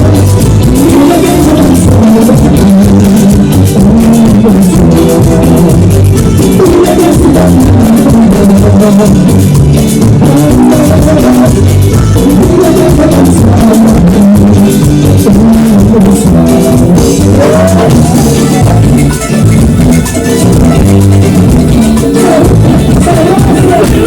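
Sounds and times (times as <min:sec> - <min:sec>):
bass: 0:00.0 - 0:24.0
drum kit: 0:00.0 - 0:24.0
guitar: 0:00.0 - 0:24.0.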